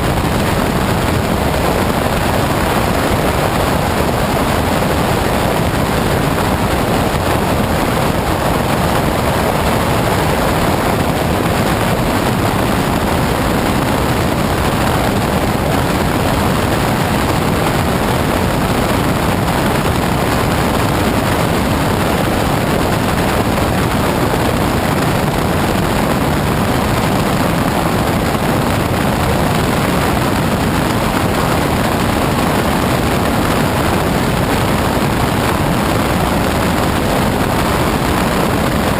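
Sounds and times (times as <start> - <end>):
propeller aircraft engine: 0.0 - 38.9
wind rushing on microphone: 0.0 - 38.9.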